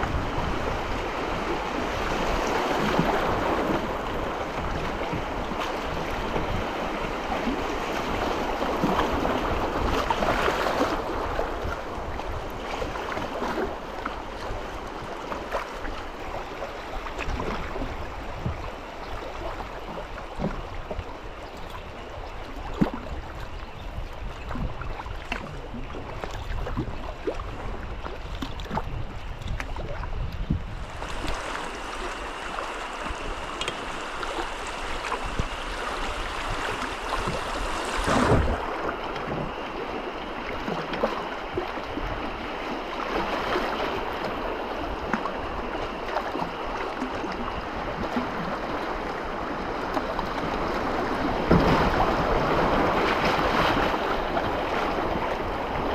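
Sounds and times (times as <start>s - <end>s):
river water rushing and splashing: 0.0s - 23.4s, 29.8s - 55.9s.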